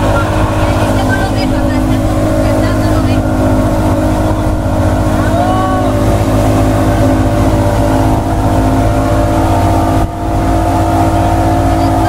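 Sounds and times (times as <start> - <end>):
outboard engine running: 0.0 - 12.0
water rushing in wake: 0.0 - 12.0.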